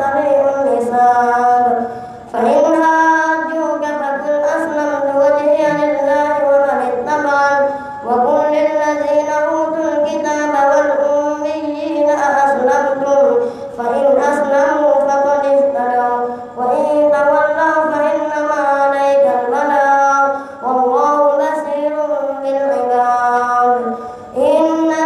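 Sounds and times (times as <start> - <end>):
boy chanting melodic recitation: 0.0 - 25.0.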